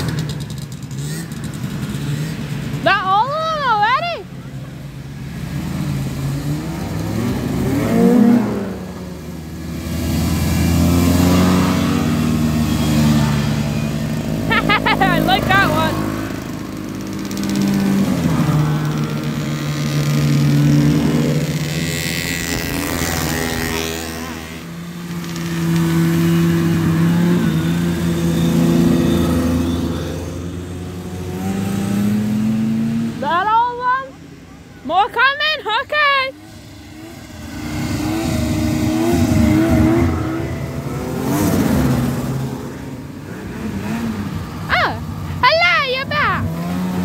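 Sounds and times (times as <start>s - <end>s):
snowmobile engines passing by: 0.0s - 47.0s.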